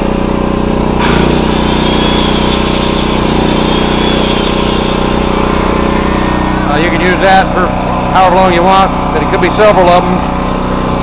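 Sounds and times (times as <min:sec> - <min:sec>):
circular saw running: 0:00.0 - 0:11.0
generator engine running: 0:00.0 - 0:11.0.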